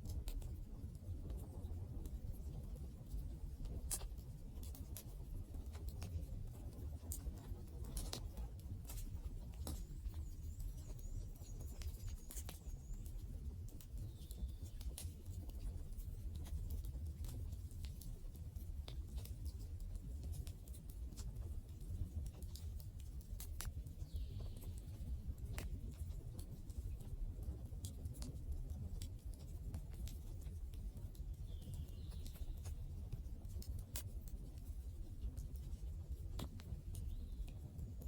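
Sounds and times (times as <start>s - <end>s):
low rumble of flames: 0.0s - 38.0s
wood fire crackling and popping: 0.2s - 38.0s.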